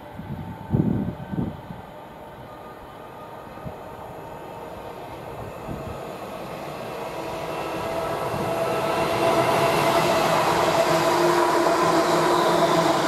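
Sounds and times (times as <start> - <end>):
train rumbling on rails: 0.0 - 13.0
train motor whine: 0.1 - 13.0.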